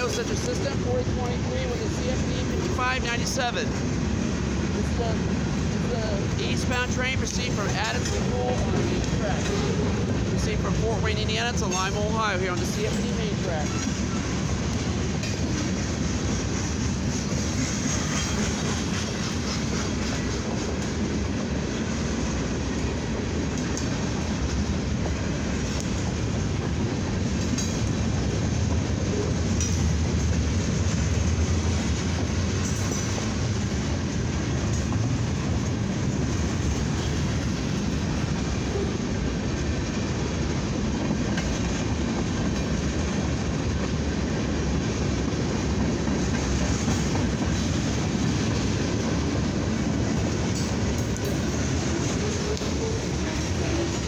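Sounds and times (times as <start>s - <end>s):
train wheels rolling on rail: 0.0s - 54.0s
wheels clacking over rail joints: 0.0s - 54.0s.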